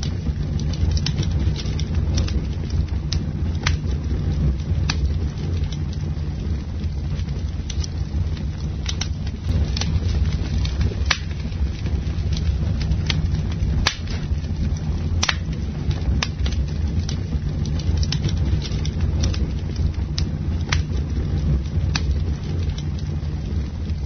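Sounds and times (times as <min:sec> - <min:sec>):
low rumble of fire: 0:00.0 - 0:24.0
sharp pops of fire: 0:00.0 - 0:24.0
wood crackling: 0:00.0 - 0:24.0.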